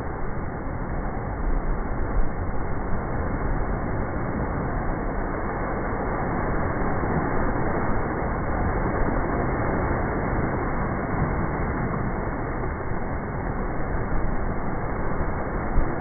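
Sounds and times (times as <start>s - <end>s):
seawater rushing off rocks: 2.7s - 16.0s.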